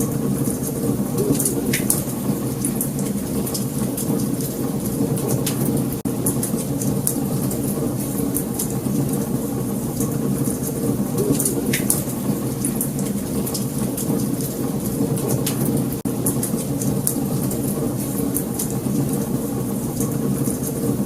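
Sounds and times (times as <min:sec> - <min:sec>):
wood fire flames rushing: 0:00.0 - 0:21.0
fire crackles and pops: 0:00.3 - 0:21.0.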